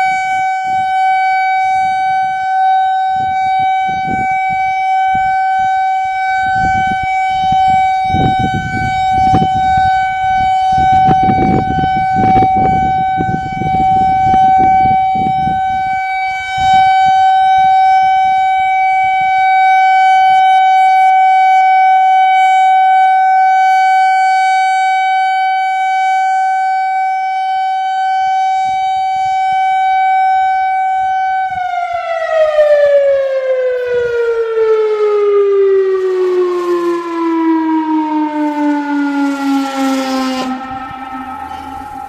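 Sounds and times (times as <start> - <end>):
warning siren winding down: 0.0 - 42.0.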